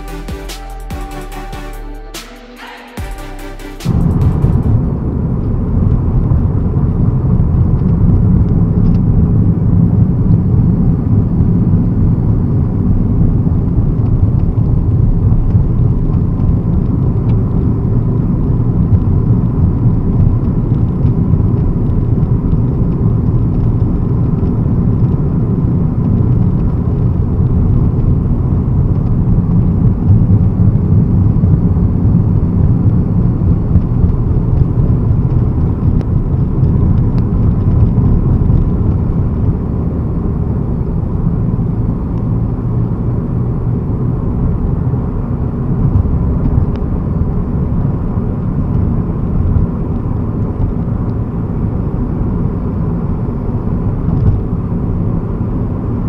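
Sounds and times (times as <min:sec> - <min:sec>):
car interior road rumble: 0:03.9 - 0:56.0.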